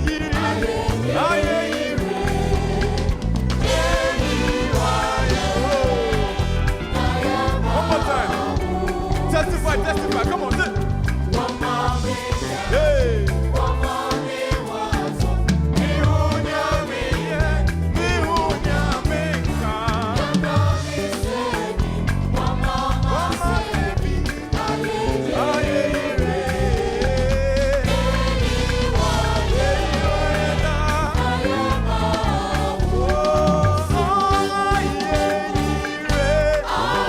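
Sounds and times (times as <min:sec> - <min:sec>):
gospel choir with full band: 0:00.0 - 0:37.0.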